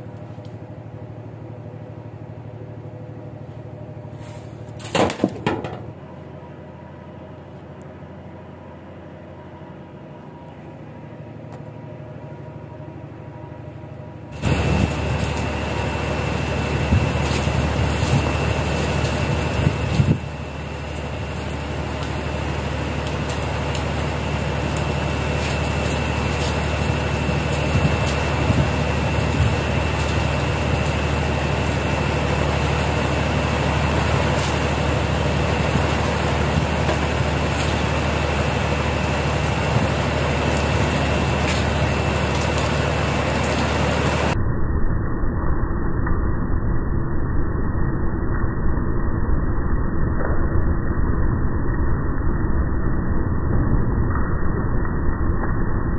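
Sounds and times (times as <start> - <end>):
machinery low hum: 0.0 - 55.9
steady high whine: 5.6 - 55.9.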